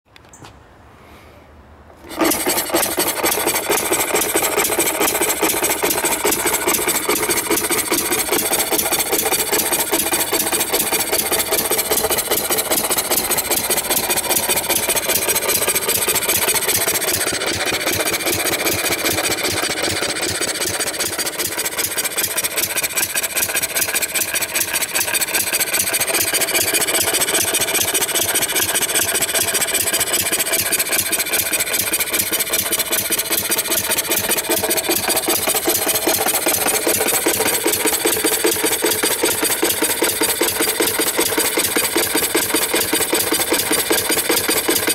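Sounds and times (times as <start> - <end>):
model engine clattering: 2.0 - 44.9.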